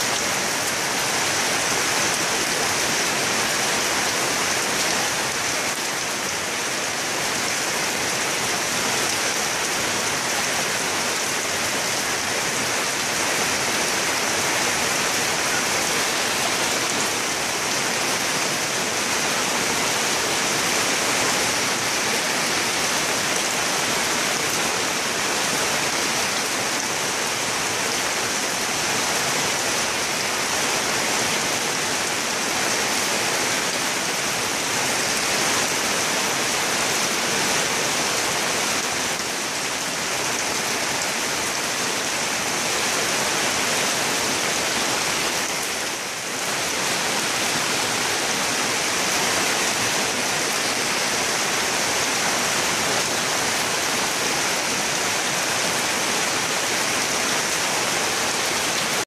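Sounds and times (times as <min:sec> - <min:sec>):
heavy rain on leaves: 0:00.0 - 0:59.0.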